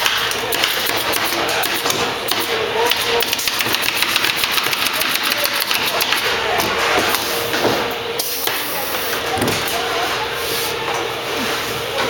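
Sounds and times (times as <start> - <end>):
workshop noise: 0.0 - 12.0.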